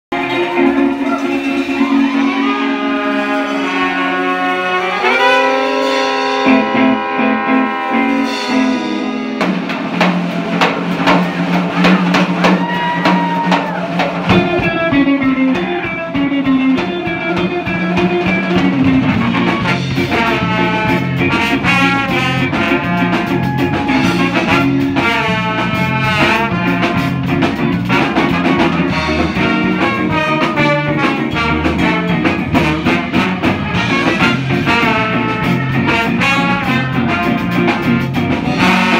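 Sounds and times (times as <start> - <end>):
trumpet and trombones playing: 0.1 - 13.5, 17.0 - 38.9
bass line: 0.1 - 38.9
drum kit beat: 0.1 - 38.9
electric guitar: 0.1 - 38.9.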